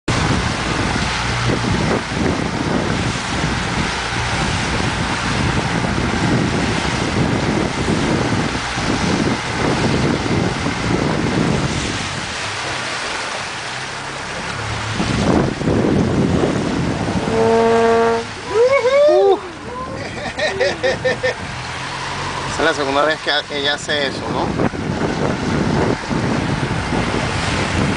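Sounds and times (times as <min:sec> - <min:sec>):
choppy sea water rushing: 0:00.1 - 0:27.9
wind buffeting microphone: 0:00.1 - 0:27.9.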